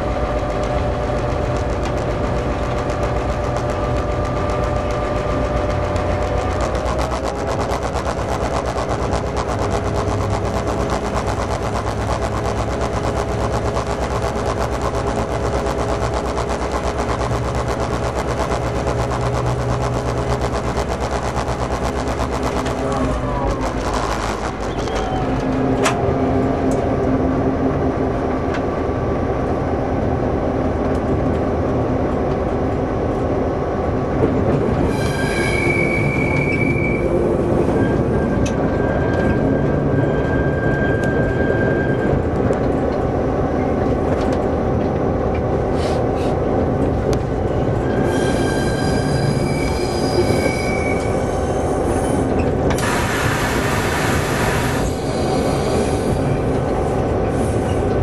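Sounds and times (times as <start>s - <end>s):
wheel flanges squealing: 0.0s - 27.0s, 34.6s - 42.9s, 45.7s - 58.0s
diesel locomotive engine running: 0.0s - 58.0s.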